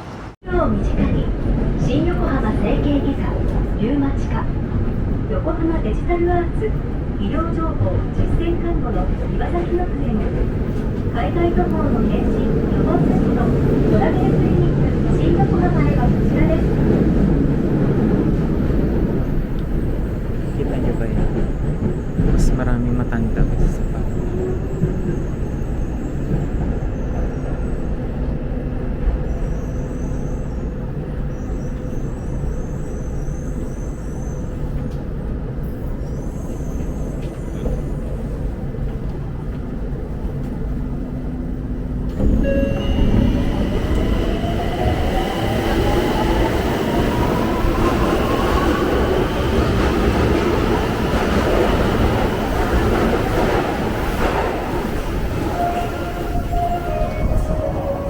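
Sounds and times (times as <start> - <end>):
train rumbling inside carriage: 0.0 - 58.0.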